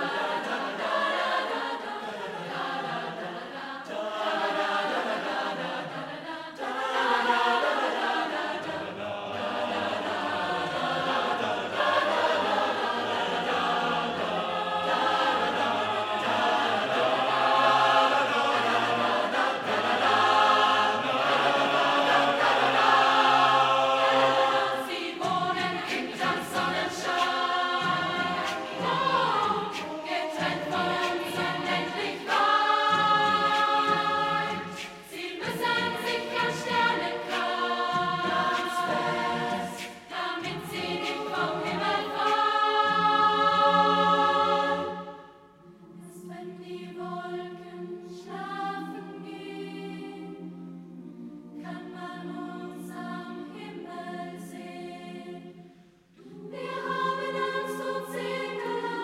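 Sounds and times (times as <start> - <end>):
mixed choir singing in harmony: 0.0 - 59.0.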